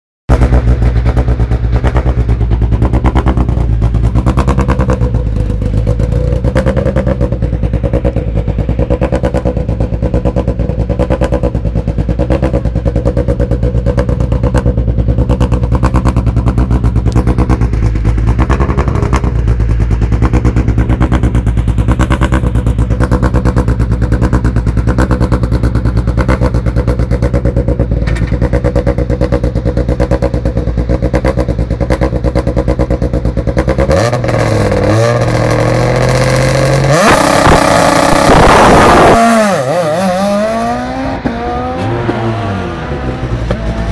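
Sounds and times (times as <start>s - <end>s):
rally car engine idling: 0.3s - 39.7s
engine throttle blips: 0.3s - 43.9s.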